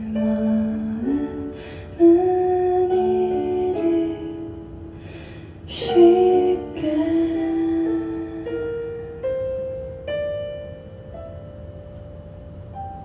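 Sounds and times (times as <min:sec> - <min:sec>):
slow piano notes: 0:00.0 - 0:13.0.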